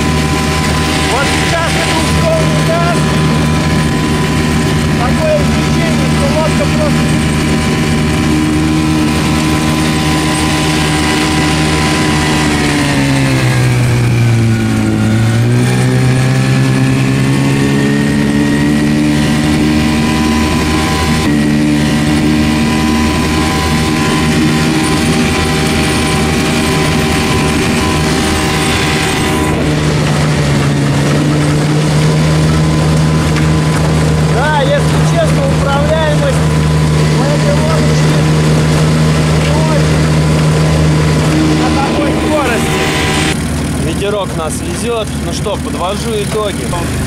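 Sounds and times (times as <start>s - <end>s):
outboard motor running fast: 0.0s - 47.0s
water rushing along hull: 0.0s - 47.0s.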